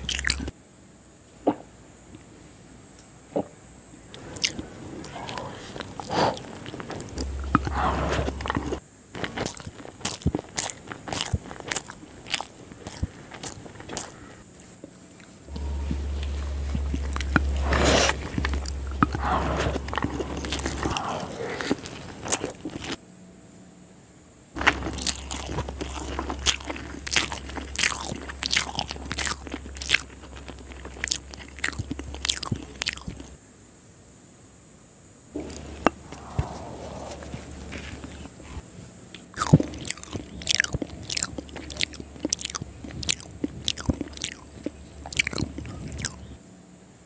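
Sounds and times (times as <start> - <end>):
wet chewing with crunches: 0.0 - 0.5, 4.1 - 23.0, 24.6 - 33.4, 35.4 - 46.4.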